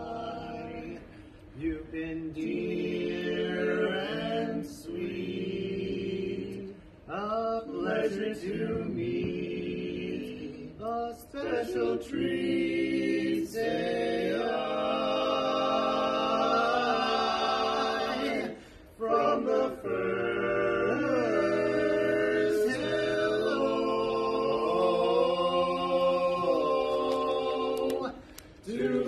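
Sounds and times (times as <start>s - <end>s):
male vocal quartet singing: 0.0s - 29.0s.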